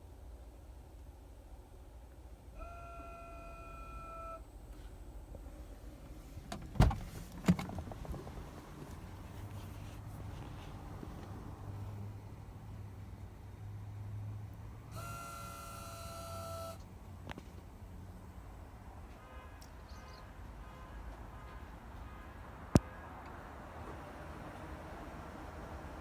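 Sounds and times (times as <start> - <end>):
low steady hum: 0.0 - 21.5.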